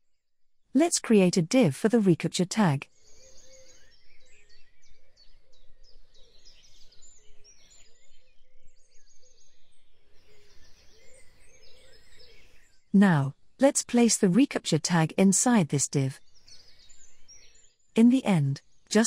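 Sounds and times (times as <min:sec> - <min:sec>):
songbirds chirping: 0:02.2 - 0:19.0.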